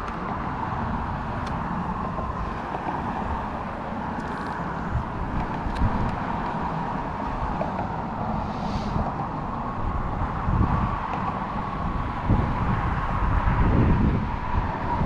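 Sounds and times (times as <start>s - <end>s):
car crossing bridge: 0.0s - 15.0s
wind rumble on microphone: 0.0s - 15.0s.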